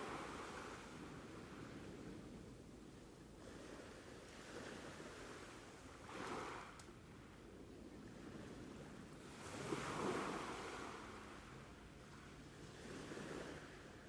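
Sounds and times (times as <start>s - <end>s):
ocean waves breaking on shore: 0.0s - 2.5s, 3.3s - 7.3s, 7.9s - 14.0s.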